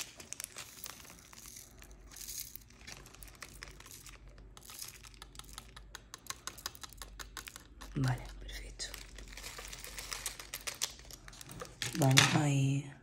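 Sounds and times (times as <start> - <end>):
plastic crinkling: 0.0 - 12.2
beads rattling in plastic tray: 0.0 - 12.4.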